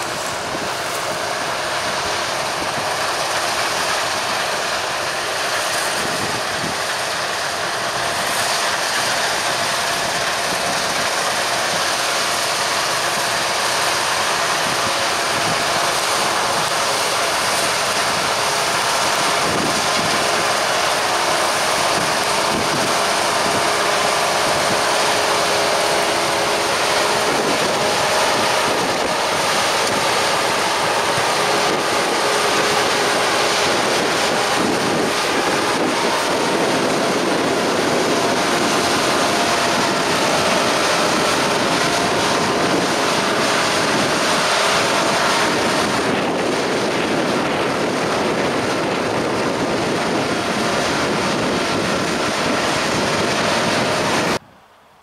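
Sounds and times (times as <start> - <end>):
machine rushing noise: 0.0 - 54.4
combine harvester engine drone: 0.0 - 55.0.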